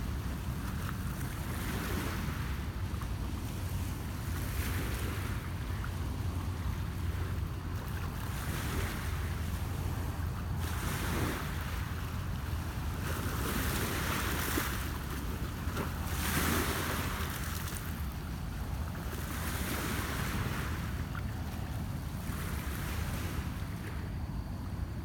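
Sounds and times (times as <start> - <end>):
waves lapping on rocks: 0.0 - 24.7
wind rumble on microphone: 0.0 - 25.0.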